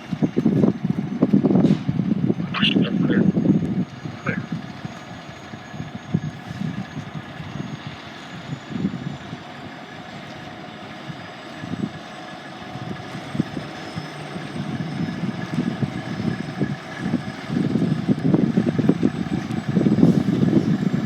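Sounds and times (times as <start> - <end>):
fire truck engine rumbling: 0.0 - 21.0.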